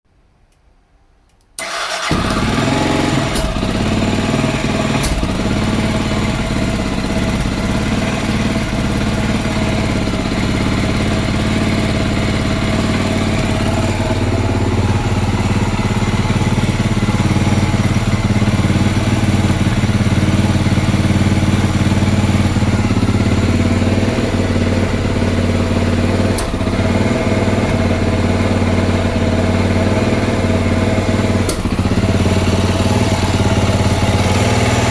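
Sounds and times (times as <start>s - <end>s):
motorcycle engine idling roughly: 1.7s - 34.9s
engine sharp pops: 2.0s - 23.5s, 24.7s - 29.1s, 31.3s - 34.9s.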